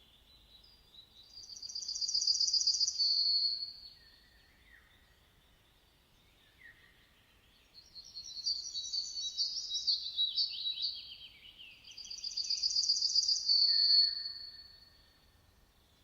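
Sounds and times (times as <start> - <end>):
songbird singing trills: 0.0 - 16.0.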